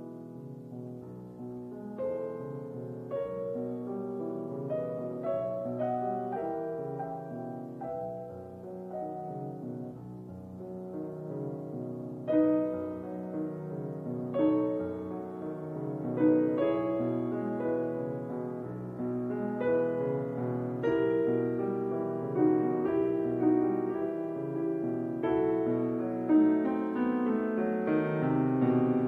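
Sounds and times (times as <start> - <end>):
soft solo piano: 0.0 - 29.0.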